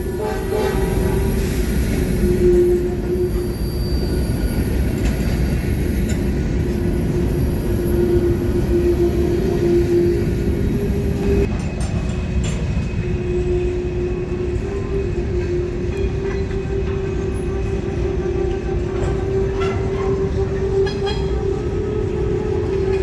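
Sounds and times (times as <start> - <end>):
freight train rumbling: 0.0 - 23.0
train wheels squealing: 0.0 - 23.0.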